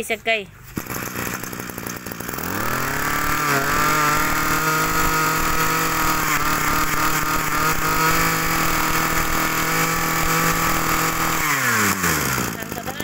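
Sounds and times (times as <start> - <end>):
brush cutter engine running: 0.6 - 13.0.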